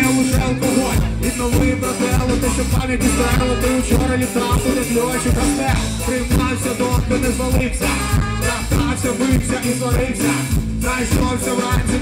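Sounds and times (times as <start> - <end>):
drums: 0.0 - 12.0
electric guitar: 0.0 - 12.0
trombone: 0.0 - 12.0.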